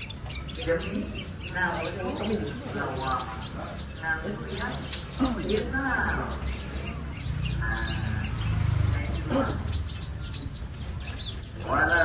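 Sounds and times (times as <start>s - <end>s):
songbird chirping and twittering: 0.0s - 12.0s.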